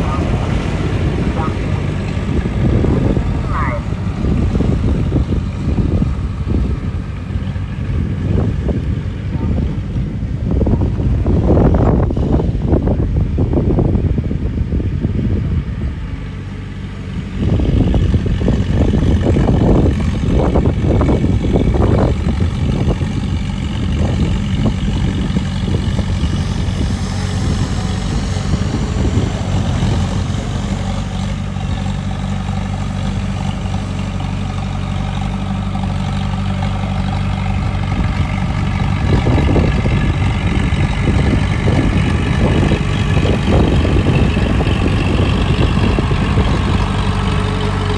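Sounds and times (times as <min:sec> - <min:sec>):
heavy machinery diesel engine: 0:00.0 - 0:47.9.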